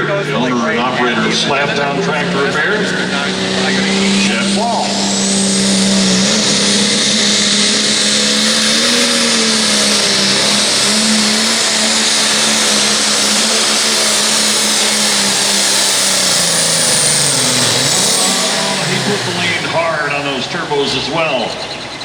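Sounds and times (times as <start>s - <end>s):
diesel tractor engine under load: 0.0s - 22.0s
high turbo whistle: 0.0s - 22.0s.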